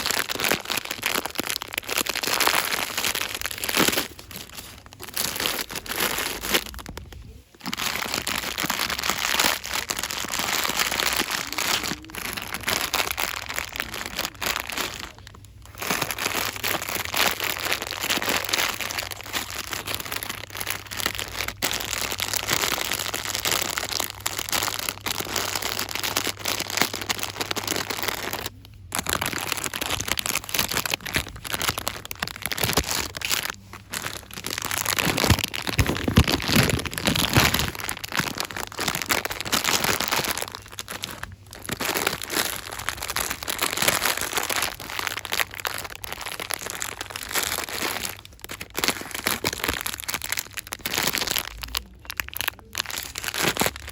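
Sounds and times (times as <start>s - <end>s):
packaging crinkling: 0.0s - 53.9s.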